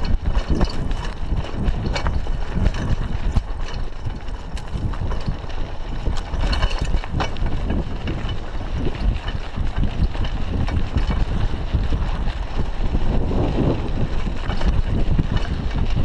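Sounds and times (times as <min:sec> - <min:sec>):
bicycle clicks and rattles: 0:00.0 - 0:16.0
tyres rolling over gravel: 0:00.0 - 0:16.0
wind buffeting microphone: 0:00.0 - 0:16.0.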